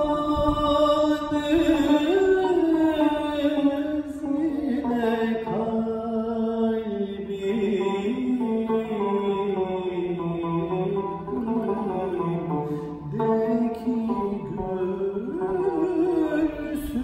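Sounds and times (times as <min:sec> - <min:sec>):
man singing: 0:00.0 - 0:17.0
plucked lute: 0:00.0 - 0:17.0.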